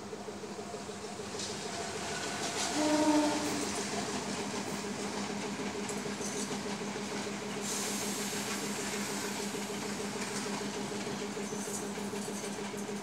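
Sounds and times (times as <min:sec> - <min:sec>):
diesel locomotive engine idling: 0:00.0 - 0:13.0.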